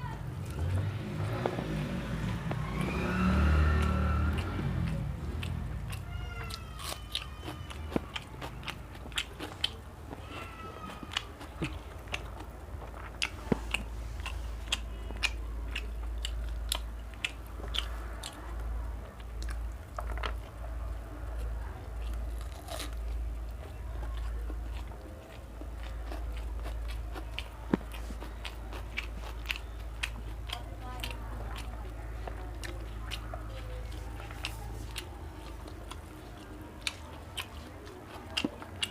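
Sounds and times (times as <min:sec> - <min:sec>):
person chewing and crunching: 0:00.4 - 0:38.9.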